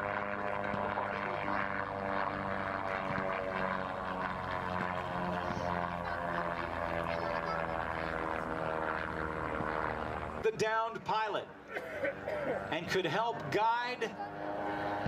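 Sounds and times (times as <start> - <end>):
propeller plane droning past: 0.0 - 15.0.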